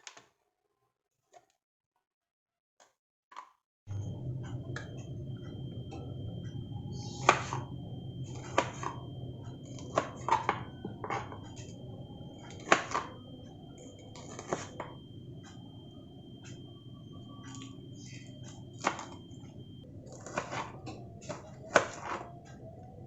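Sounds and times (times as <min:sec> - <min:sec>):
low hum: 0:03.9 - 0:23.0.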